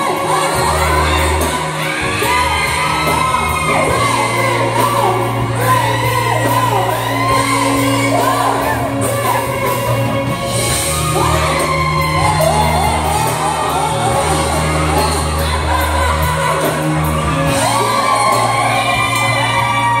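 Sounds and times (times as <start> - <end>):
live band with singer: 0.0 - 20.0.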